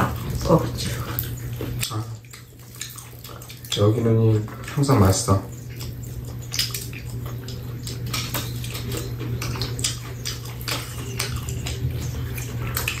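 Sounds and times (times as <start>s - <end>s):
crispy fried chicken being chewed: 0.0s - 13.0s
steady low hum: 0.0s - 13.0s.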